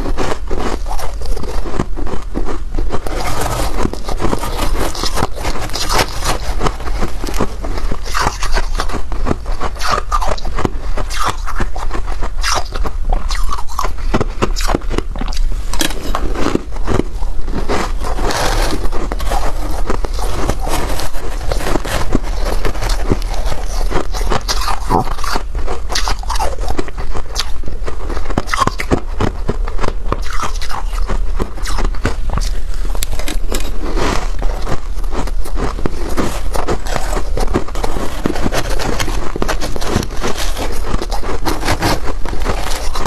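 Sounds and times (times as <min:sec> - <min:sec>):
frost being chewed crunching: 0:00.0 - 0:43.0
steady low hum: 0:00.0 - 0:43.0.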